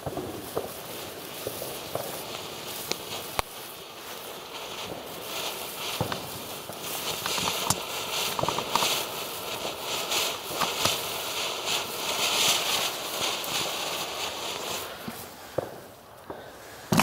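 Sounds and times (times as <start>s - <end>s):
crackling pops: 0.0s - 11.2s, 14.4s - 17.0s
firework fountain hissing: 0.0s - 17.0s.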